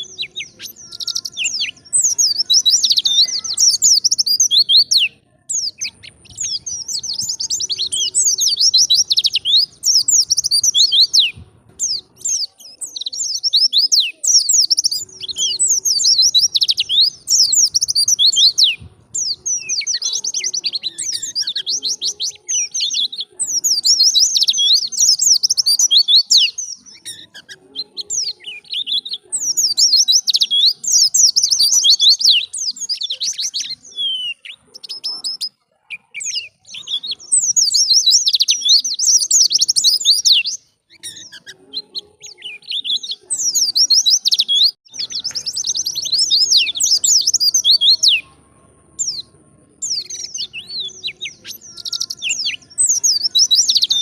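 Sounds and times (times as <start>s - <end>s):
bird singing rapid high twitters: 0.0s - 54.0s.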